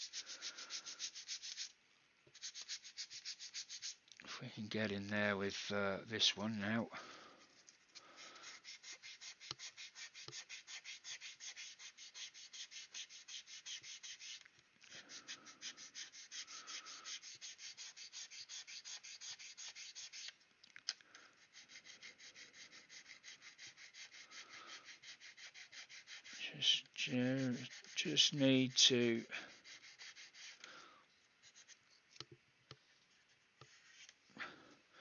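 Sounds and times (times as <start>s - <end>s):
sanding plastic back and forth: 0.0s - 4.0s, 7.4s - 20.4s, 21.4s - 30.8s, 31.4s - 32.0s, 33.1s - 34.2s.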